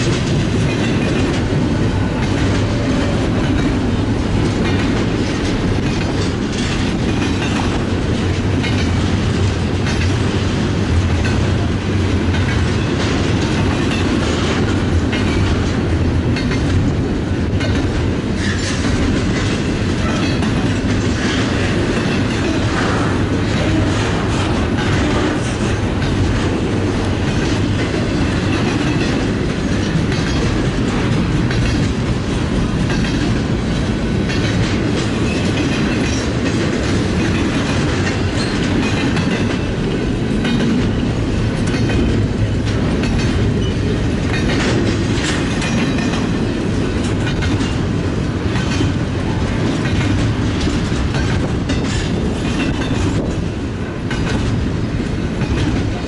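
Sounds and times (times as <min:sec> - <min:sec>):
freight train rumble: 0:00.0 - 0:56.0
train wheels clicking on rail joints: 0:00.0 - 0:56.0.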